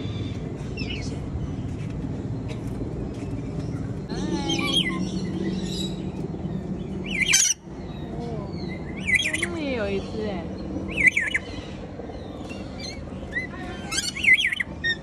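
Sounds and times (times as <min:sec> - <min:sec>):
birds calling: 0:00.0 - 0:15.0
low background hum: 0:00.0 - 0:15.0.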